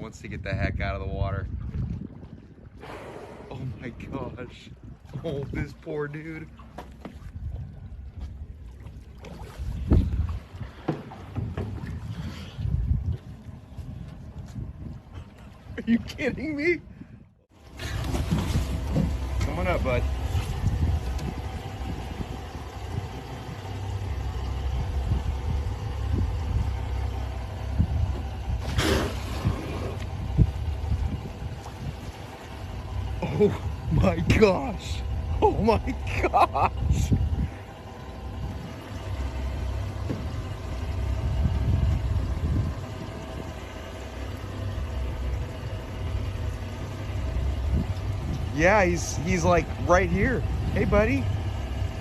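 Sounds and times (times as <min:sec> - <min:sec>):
boat motor idling: 0:00.3 - 0:52.0.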